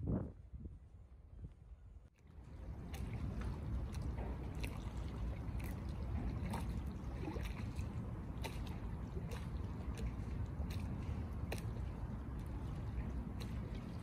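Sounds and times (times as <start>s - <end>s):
steady low rumble: 0.0s - 14.0s
small splashes and ticks: 2.2s - 14.0s
water lapping against stone: 2.2s - 14.0s.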